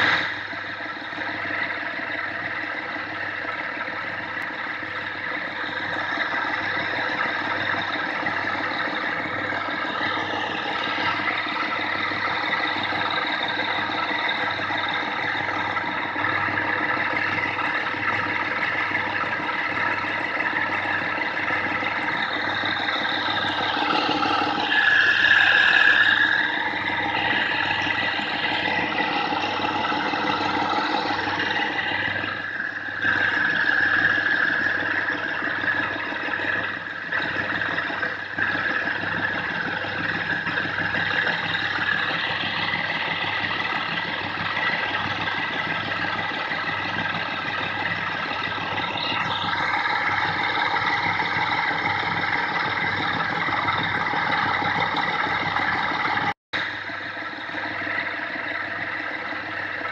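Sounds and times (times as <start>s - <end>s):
wood lathe drone: 0.0s - 59.9s
high-pitched squeal: 4.5s - 59.8s.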